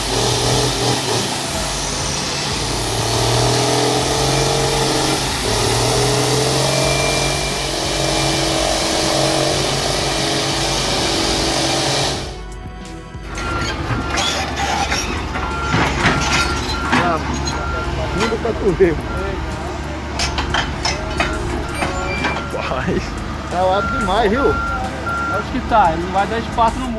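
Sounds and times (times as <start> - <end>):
background music: 0.0 - 26.9
tractor diesel engine running: 0.0 - 26.9.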